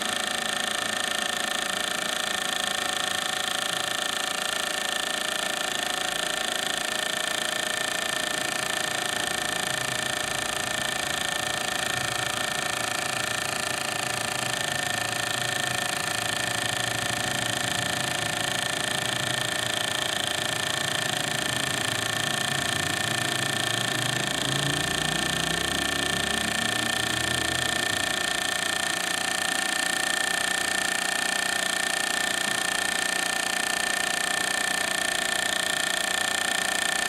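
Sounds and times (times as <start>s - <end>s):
mechanical whirr with high tone: 0.0s - 37.0s.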